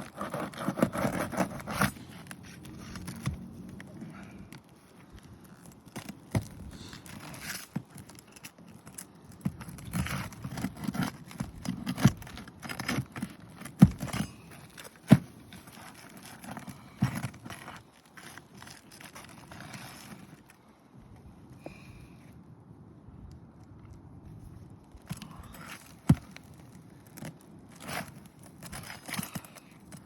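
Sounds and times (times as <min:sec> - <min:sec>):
hand tool scraping shingles: 0:00.0 - 0:04.6, 0:05.4 - 0:20.4, 0:25.1 - 0:30.0.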